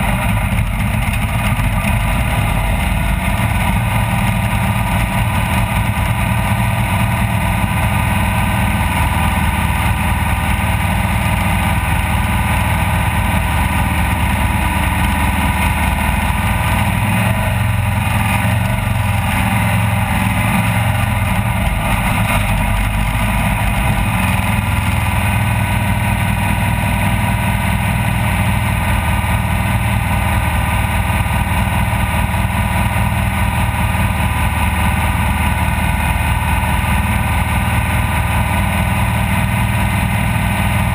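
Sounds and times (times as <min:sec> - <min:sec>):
race vehicle engine running hard: 0:00.0 - 0:40.9.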